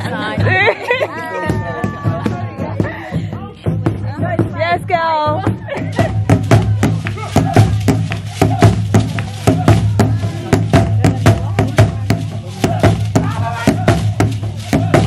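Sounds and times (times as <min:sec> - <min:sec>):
fast dance drums: 0:00.0 - 0:15.0
voices: 0:00.0 - 0:15.0.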